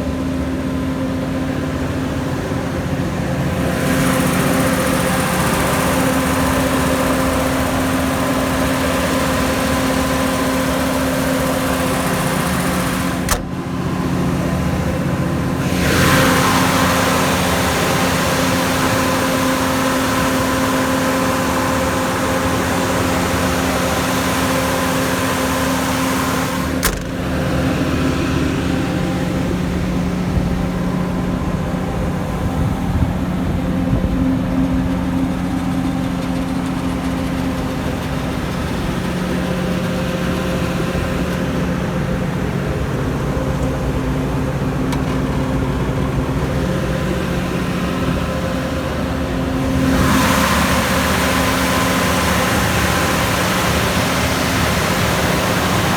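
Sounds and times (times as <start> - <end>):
diesel generator engine humming: 0.0 - 55.9.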